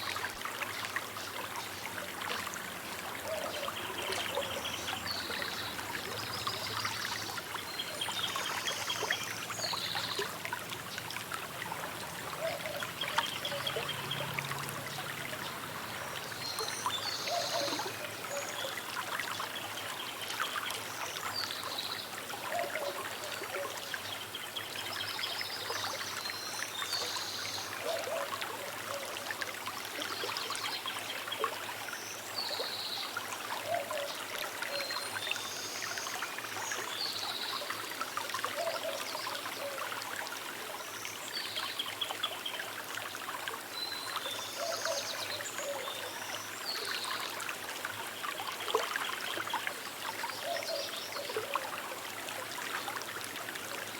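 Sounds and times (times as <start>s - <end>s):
river trickling over stones: 0.0s - 53.9s.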